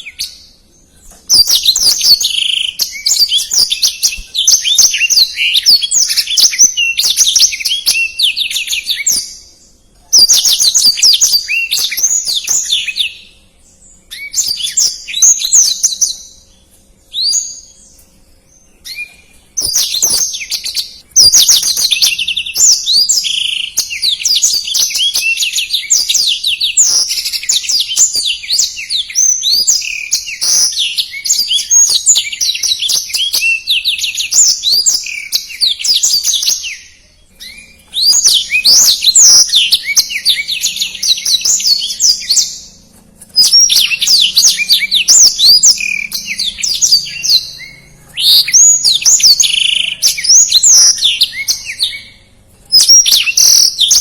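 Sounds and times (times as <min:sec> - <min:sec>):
canary singing high twittering song: 0:00.0 - 0:54.0.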